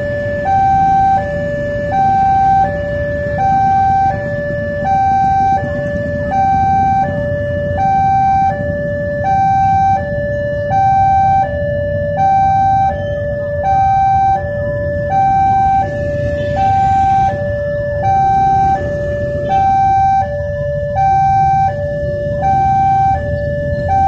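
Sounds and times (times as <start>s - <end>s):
low rumble of road traffic: 0.0s - 24.0s
two-tone electronic crossing alarm: 0.0s - 24.0s.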